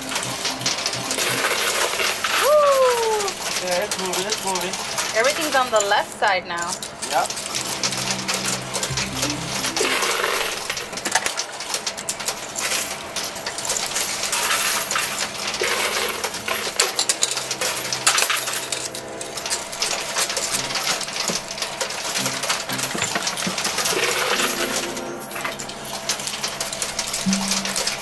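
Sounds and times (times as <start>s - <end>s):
coins clinking in arcade machine: 0.0s - 28.0s.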